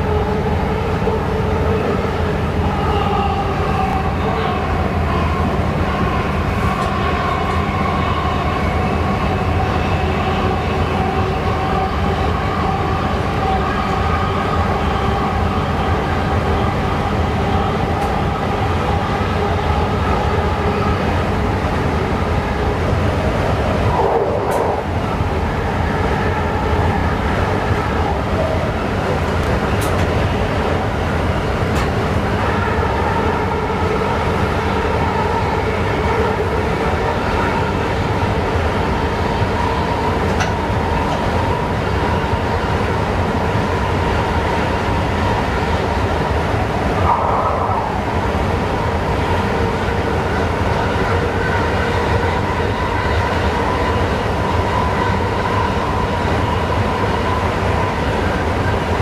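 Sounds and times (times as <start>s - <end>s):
train rumble with pitched tones: 0.0s - 59.0s.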